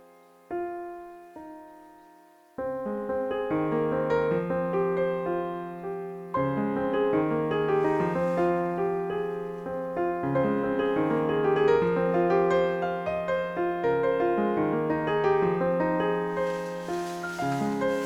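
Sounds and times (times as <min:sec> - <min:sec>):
gentle slow piano music: 0:00.0 - 0:18.0.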